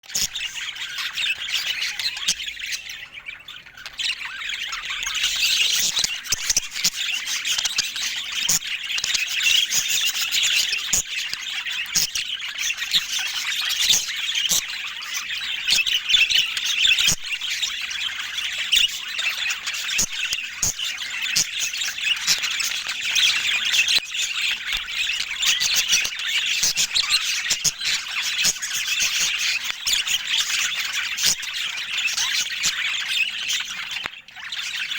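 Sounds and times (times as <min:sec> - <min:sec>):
budgerigars chattering and squawking: 0:00.0 - 0:34.9.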